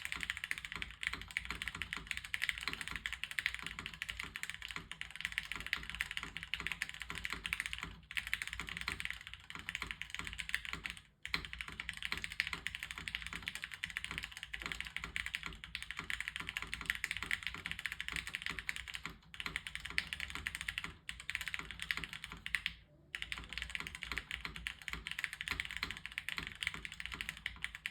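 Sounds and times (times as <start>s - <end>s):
fast mechanical keyboard typing: 0.0s - 27.9s.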